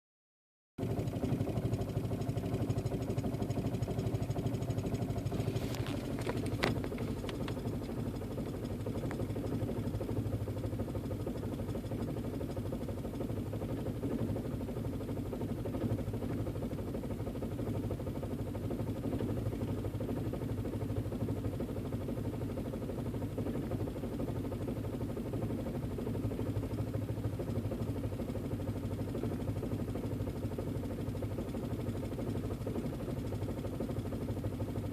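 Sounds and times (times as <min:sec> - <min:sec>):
engine idling roughly: 0:00.8 - 0:34.9.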